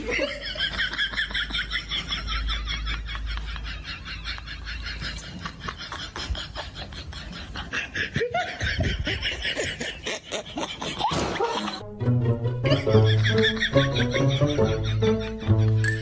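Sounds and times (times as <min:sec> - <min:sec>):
person snickering and chuckling: 0:00.0 - 0:11.8, 0:12.6 - 0:16.0.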